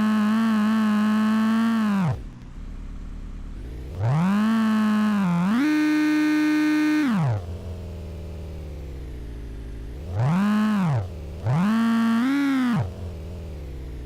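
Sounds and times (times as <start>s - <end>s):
car engine revving: 0.0s - 2.4s, 3.1s - 14.0s.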